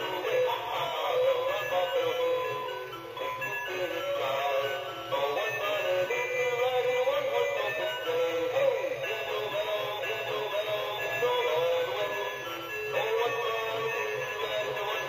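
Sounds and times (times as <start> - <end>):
electronic toy melody: 0.0 - 15.0
synthesized singing voice: 0.0 - 15.0.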